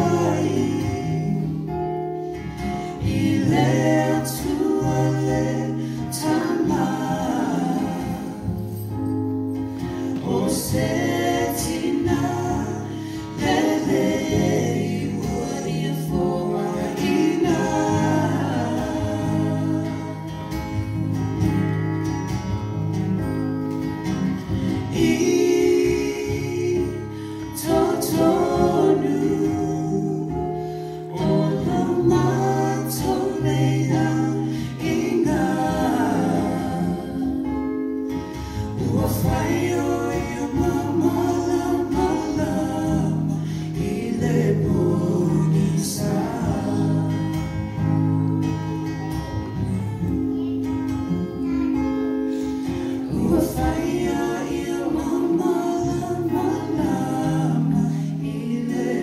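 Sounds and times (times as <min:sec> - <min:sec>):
people singing together: 0:00.0 - 0:23.1, 0:23.8 - 0:59.0
strummed acoustic guitar: 0:00.0 - 0:59.0.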